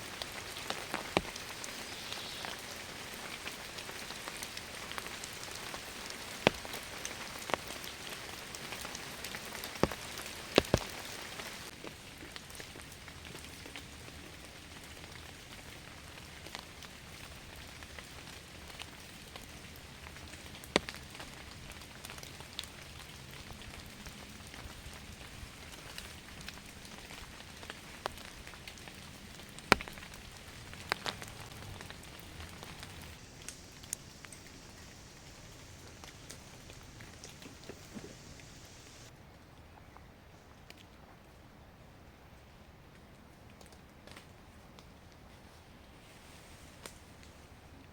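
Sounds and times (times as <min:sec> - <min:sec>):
rain falling: 0:00.0 - 0:39.1.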